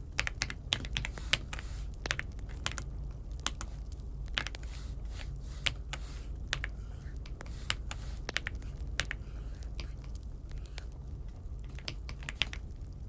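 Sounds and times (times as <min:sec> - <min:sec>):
low steady hum: 0:00.0 - 0:13.0
mechanical keyboard clicks: 0:00.2 - 0:04.7, 0:05.6 - 0:11.0, 0:11.6 - 0:12.7.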